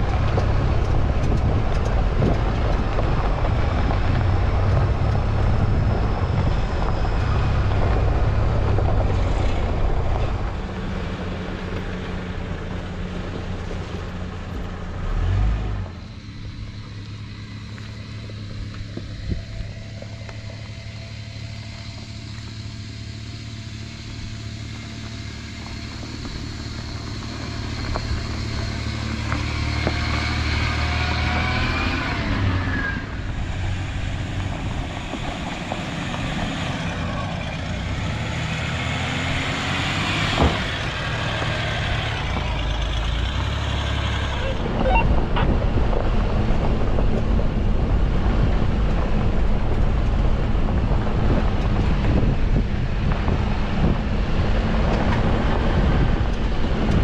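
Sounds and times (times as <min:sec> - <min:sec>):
engine droning: 0:00.0 - 0:57.0
engine revving: 0:00.0 - 0:57.0.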